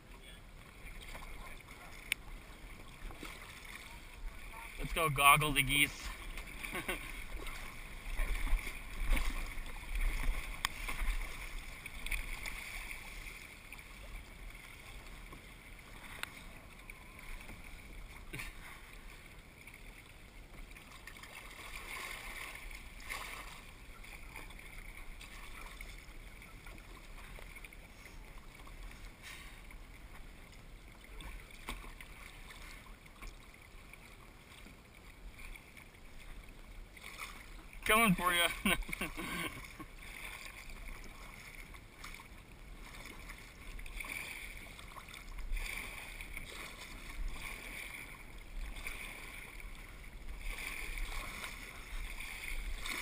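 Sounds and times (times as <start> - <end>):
paddle splashes: 0.0 - 53.0
water lapping around hull: 0.0 - 53.0.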